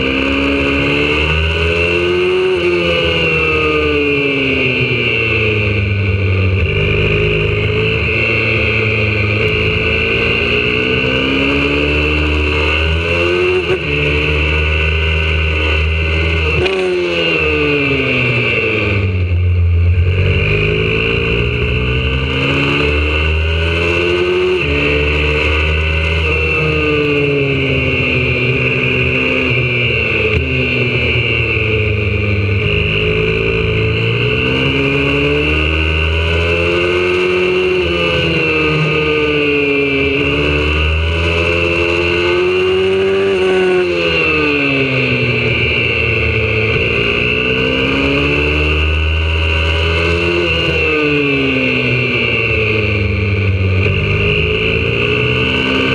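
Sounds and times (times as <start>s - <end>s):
pit bike engine at full throttle: 0.0s - 55.9s.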